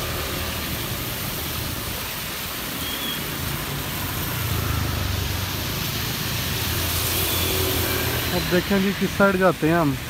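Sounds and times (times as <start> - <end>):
rain and tyres on wet road: 0.0 - 10.0.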